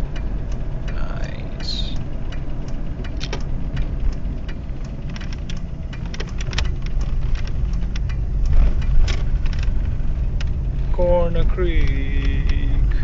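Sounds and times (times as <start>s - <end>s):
car engine and road drone: 0.0s - 13.0s
light clicks and rattles: 0.0s - 13.0s.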